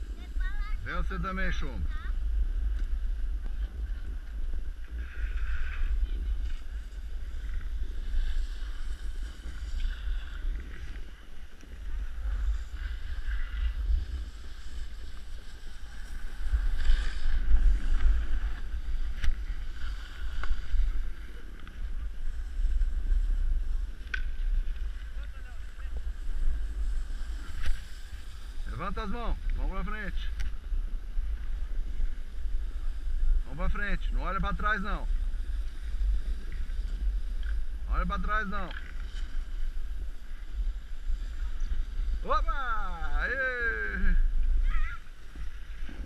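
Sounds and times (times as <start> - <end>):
hiss of sliding on snow: 3.6 - 46.0.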